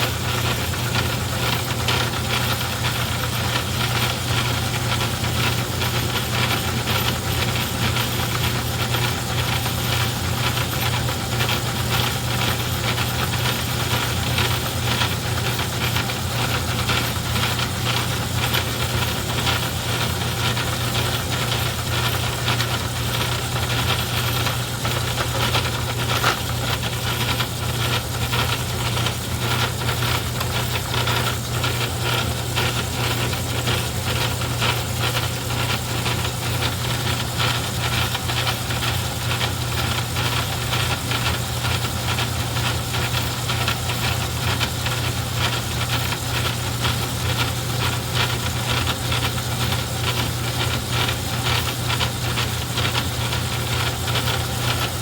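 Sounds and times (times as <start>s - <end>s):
metal lathe running: 0.0s - 55.0s.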